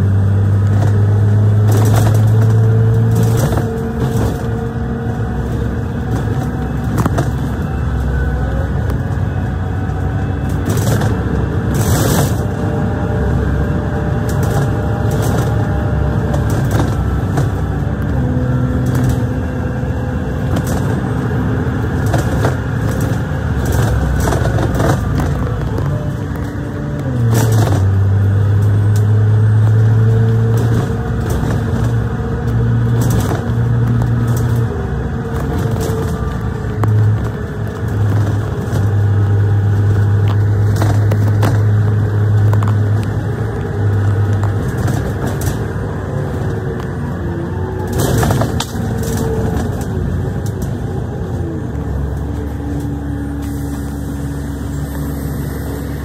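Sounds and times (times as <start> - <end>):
bus body rattling: 0.0 - 56.0
bus engine and road noise: 0.0 - 56.0.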